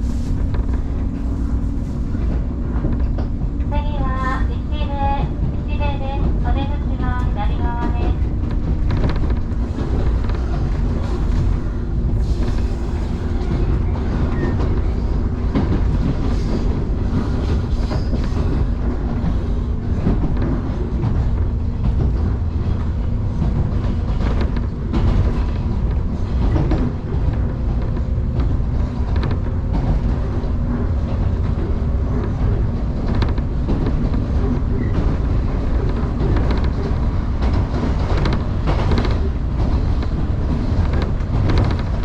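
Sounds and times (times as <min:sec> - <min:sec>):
rail joint clicks: 0:00.0 - 0:42.0
train motor hum: 0:00.0 - 0:42.0
train wheels rumbling on rail: 0:00.0 - 0:42.0.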